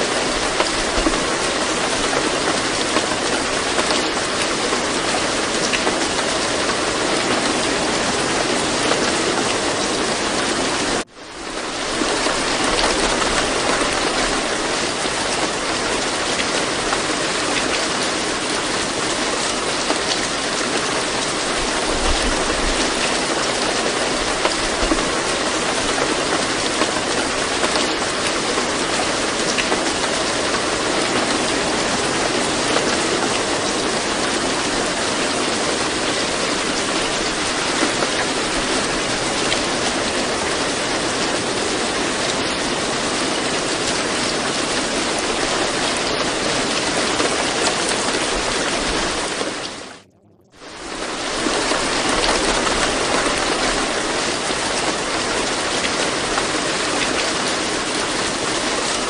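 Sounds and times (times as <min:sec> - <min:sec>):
steady rain hiss: 0:00.0 - 0:50.0, 0:50.6 - 0:59.0.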